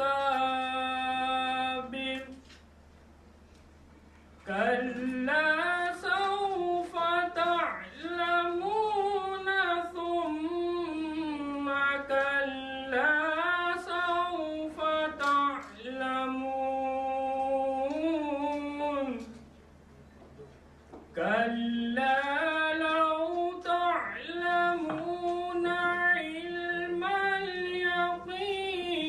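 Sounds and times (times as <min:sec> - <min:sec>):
man chanting melodically: 0:00.0 - 0:02.4, 0:04.5 - 0:19.4, 0:21.2 - 0:29.0.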